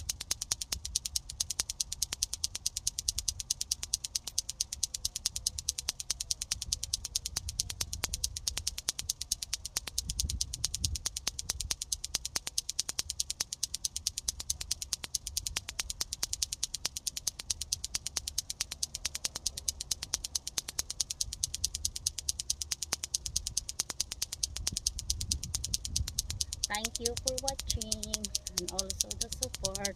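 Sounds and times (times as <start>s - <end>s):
clacker balls clacking: 0.0s - 29.9s.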